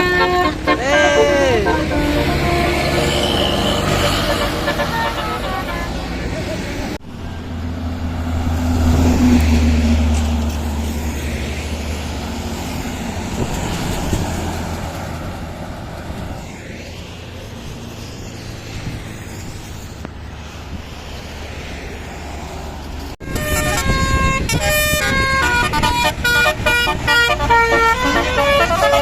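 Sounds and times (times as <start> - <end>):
bus engine rumble passing: 0.0 - 29.0
road traffic noise: 0.0 - 29.0.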